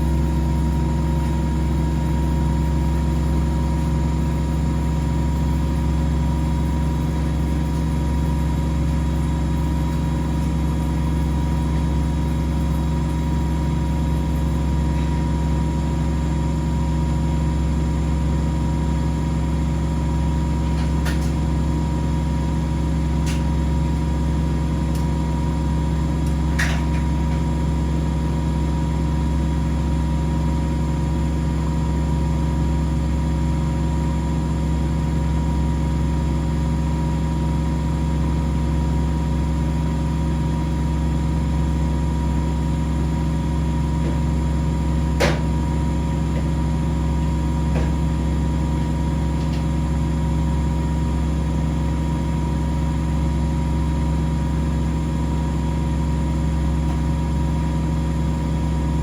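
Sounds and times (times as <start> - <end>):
washing machines and dryers humming: 0.0 - 59.0.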